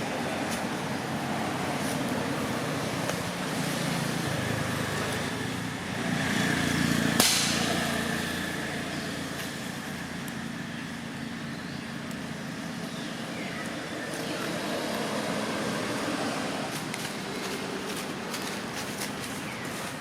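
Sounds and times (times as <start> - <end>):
vehicle passing: 0.0 - 11.2, 12.4 - 20.0
road traffic noise: 0.0 - 20.0.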